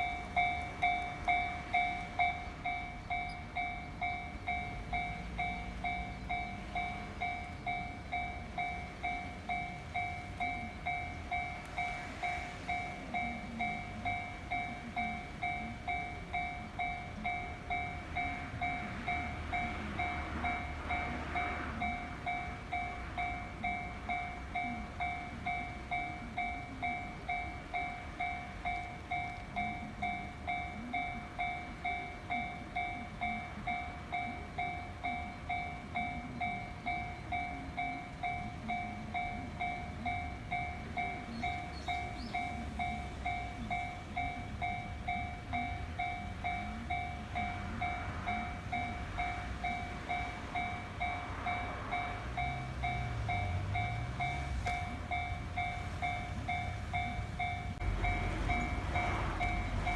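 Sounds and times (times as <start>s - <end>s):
level-crossing alarm bell ringing: 0.0s - 59.9s
train rumble: 0.0s - 59.9s.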